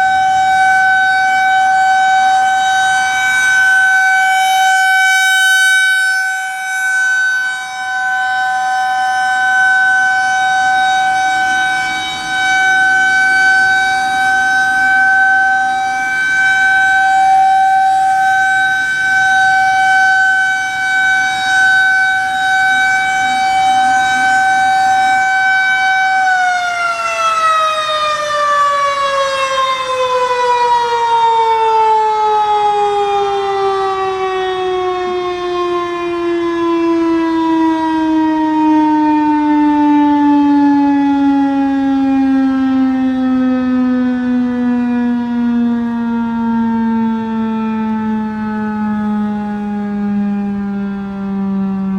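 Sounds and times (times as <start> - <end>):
rotating warning siren: 0.0 - 51.9.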